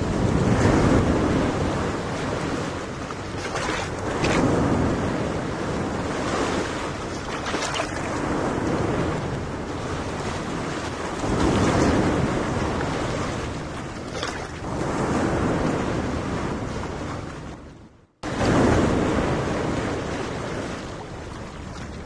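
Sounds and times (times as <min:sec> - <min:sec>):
small waves washing onto beach: 0:00.0 - 0:17.6, 0:18.2 - 0:22.0
wind buffeting microphone: 0:00.0 - 0:22.0.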